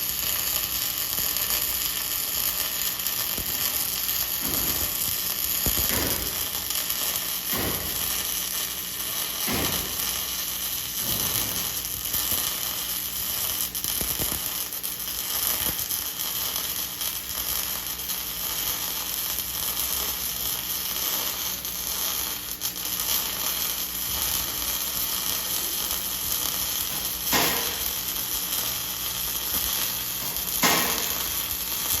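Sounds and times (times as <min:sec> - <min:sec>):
welding arc crackling: 0:00.0 - 0:32.0.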